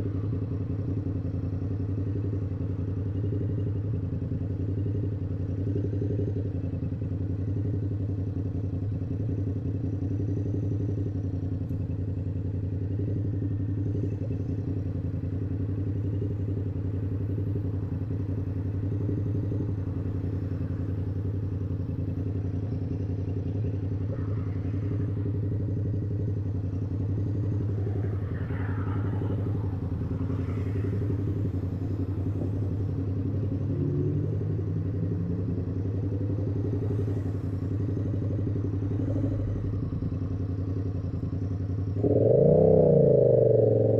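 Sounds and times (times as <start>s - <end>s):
motorcycle engine running steadily: 0.0s - 43.9s.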